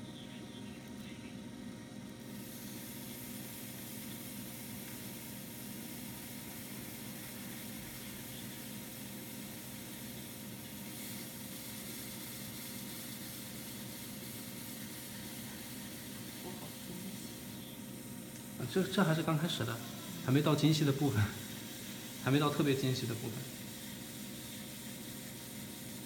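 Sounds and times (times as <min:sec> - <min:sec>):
potter's wheel motor hum: 0:00.0 - 0:26.0.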